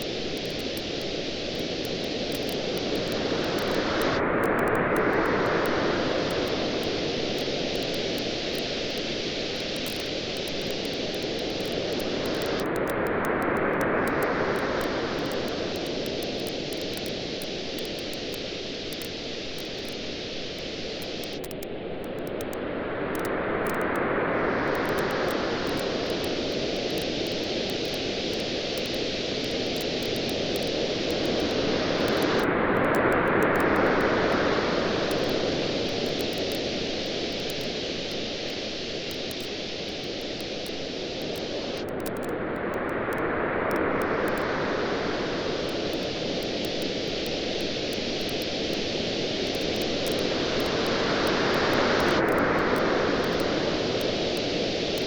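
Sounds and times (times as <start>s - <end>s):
campfire crackling: 0.0s - 22.6s, 24.7s - 42.4s, 43.7s - 55.0s
surf washing on a beach: 0.0s - 55.0s.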